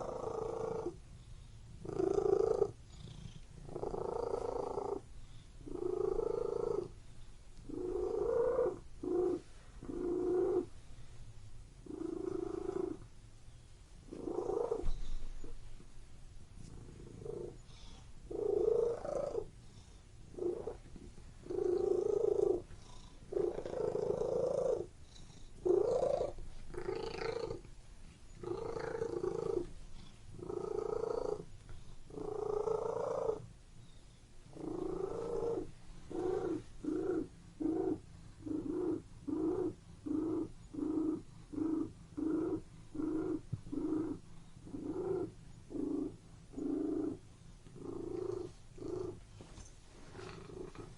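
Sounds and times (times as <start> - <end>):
cat purring: 0.0 - 11.2, 11.8 - 13.2, 14.0 - 15.9, 16.6 - 33.5, 34.5 - 50.9.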